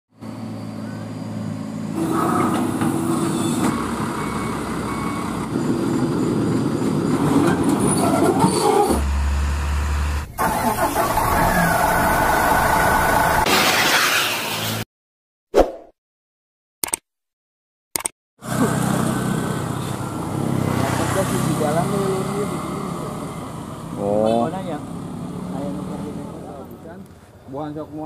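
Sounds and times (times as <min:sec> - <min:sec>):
truck engine and road noise: 0:00.1 - 0:14.9, 0:18.4 - 0:28.0.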